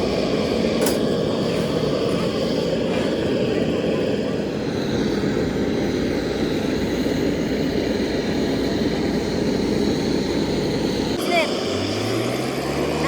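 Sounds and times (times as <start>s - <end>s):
machine rumble: 0.0s - 12.9s.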